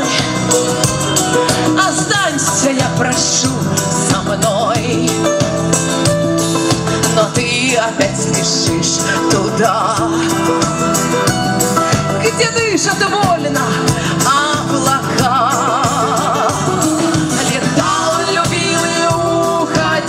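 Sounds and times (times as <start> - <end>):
woman singing with vibrato: 0.0 - 6.1, 7.0 - 20.0
live pop band playing: 0.0 - 20.0.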